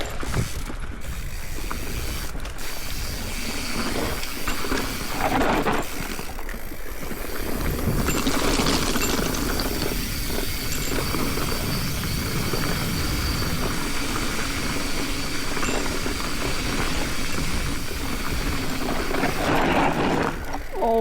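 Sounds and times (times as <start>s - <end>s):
bike rattling over rock: 0.0s - 21.0s
bike tyre and drivetrain rush: 0.0s - 21.0s.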